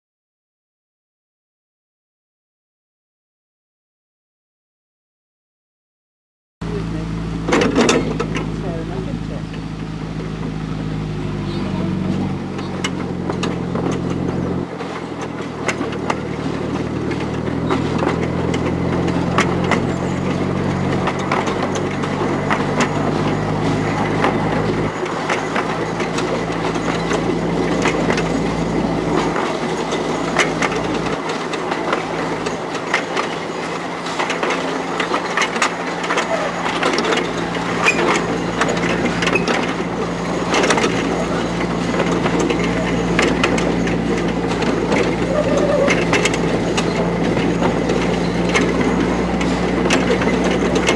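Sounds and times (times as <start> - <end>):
locomotive engine hum: 6.6 - 50.9
train wheels clicking over rails: 7.4 - 50.9.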